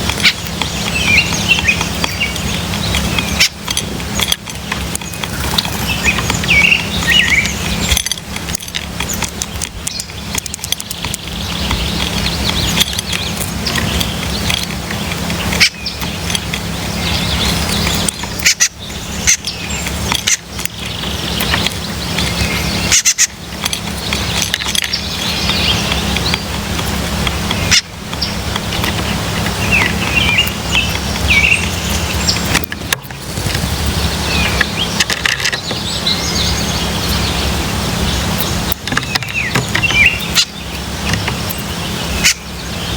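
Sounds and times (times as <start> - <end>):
birds chirping: 0.0 - 42.9
steady low rumble: 0.0 - 42.9.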